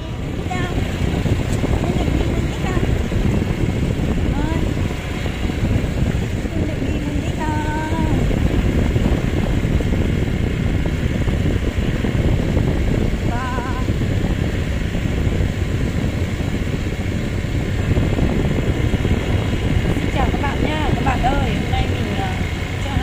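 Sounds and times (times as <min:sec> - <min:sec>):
motorbike engine rumbling: 0:00.0 - 0:23.0
wind buffeting microphone: 0:00.0 - 0:23.0.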